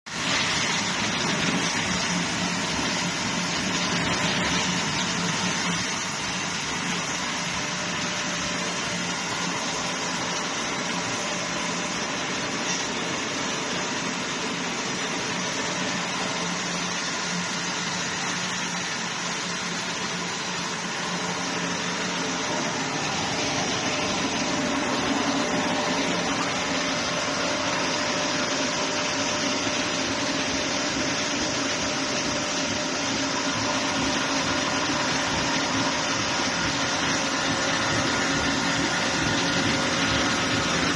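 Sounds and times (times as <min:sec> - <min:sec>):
sanding machine whirring hiss: 0:00.1 - 0:40.9.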